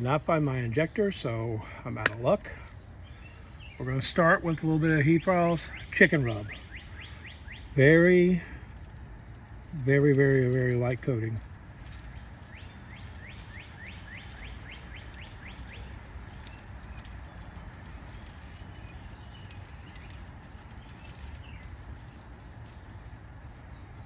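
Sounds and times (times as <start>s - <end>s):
outdoor background noise: 0.0s - 24.0s
songbird rising chirps: 0.0s - 24.0s.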